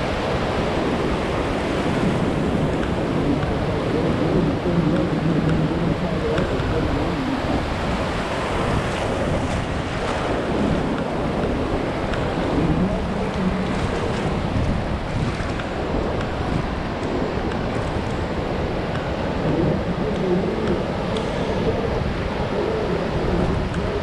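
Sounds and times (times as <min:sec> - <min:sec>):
surf breaking on sand: 0:00.0 - 0:24.0
wind buffeting microphone: 0:00.0 - 0:24.0.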